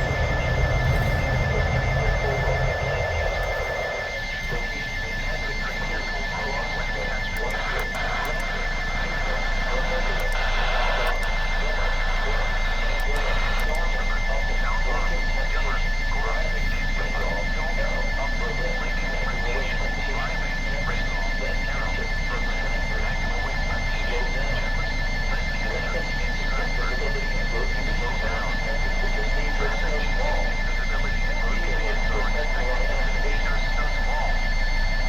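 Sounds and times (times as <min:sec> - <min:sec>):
faint voice: 0:00.0 - 0:35.0
high steady whistle tones: 0:00.0 - 0:35.0
radio static hiss: 0:00.0 - 0:35.0.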